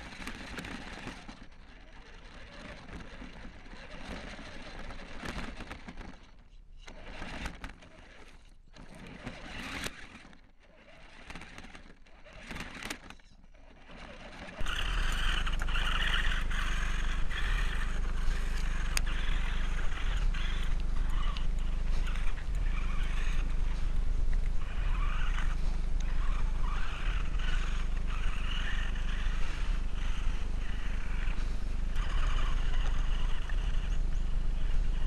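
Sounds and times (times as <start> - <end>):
electric motor and gears whining: 0.0 - 35.0
steady low hum: 0.0 - 35.0.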